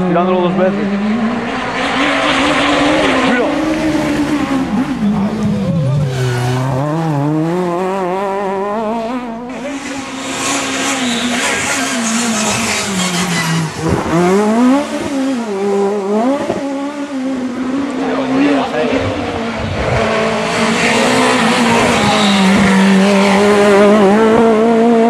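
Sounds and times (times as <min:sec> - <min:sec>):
rally car engine running hard: 0:00.0 - 0:25.0.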